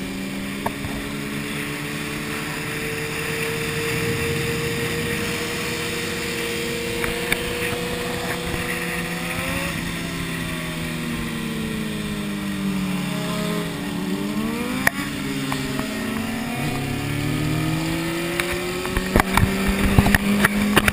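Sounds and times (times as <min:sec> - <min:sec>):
motorcycle engines idling: 0:00.0 - 0:20.9.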